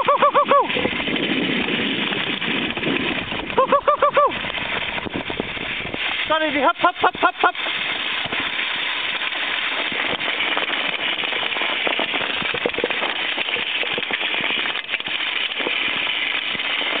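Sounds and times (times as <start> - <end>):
dogs running over crunching snow: 0.0 - 17.0
small crackles and clicks: 0.0 - 17.0.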